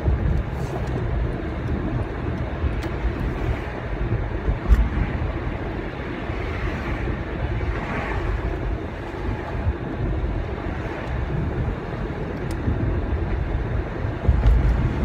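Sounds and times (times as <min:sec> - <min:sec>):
road and engine rumble: 0:00.0 - 0:15.0
wind noise: 0:00.0 - 0:15.0.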